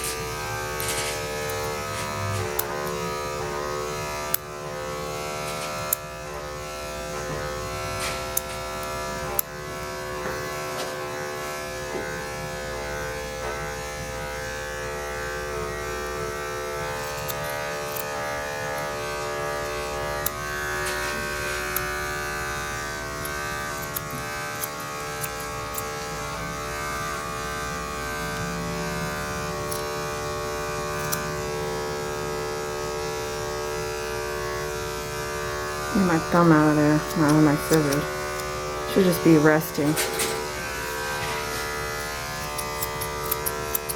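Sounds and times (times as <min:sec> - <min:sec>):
electric clippers humming: 0:00.0 - 0:43.9.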